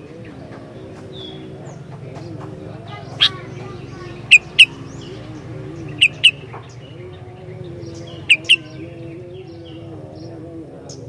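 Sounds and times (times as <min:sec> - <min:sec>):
bird sharp calls: 0:00.0 - 0:11.0
low background noise: 0:00.0 - 0:11.0.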